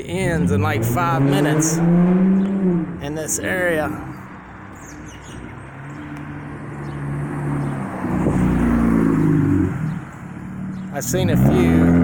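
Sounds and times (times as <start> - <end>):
vehicle engine hum passing: 0.1 - 12.0.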